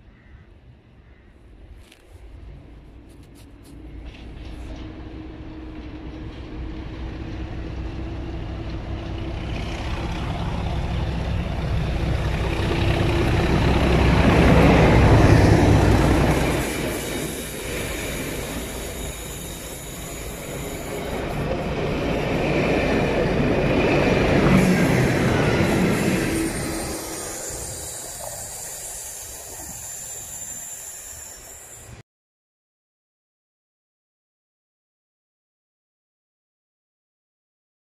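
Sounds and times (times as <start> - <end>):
diesel locomotive engine: 0.1 - 32.0
train rolling past rumble: 1.5 - 32.0.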